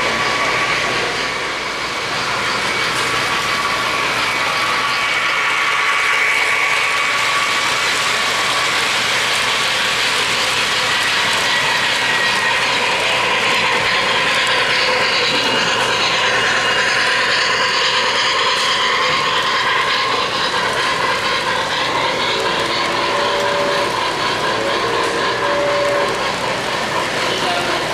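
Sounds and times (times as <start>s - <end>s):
model train wheels clattering on rails: 2.1s - 27.9s.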